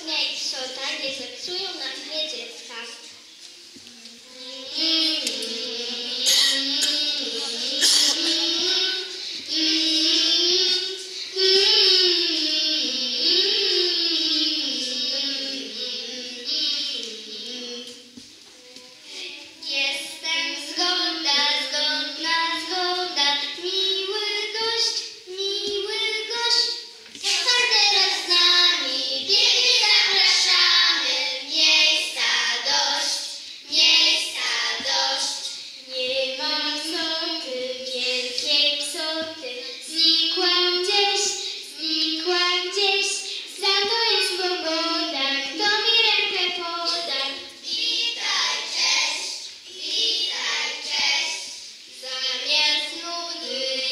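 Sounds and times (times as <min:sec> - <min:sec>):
children singing: 0:03.0 - 0:53.9.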